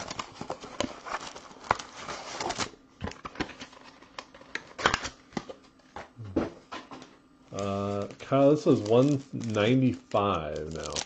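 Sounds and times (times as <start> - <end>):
cards clicking and rustling: 0.0 - 5.6, 7.5 - 11.0.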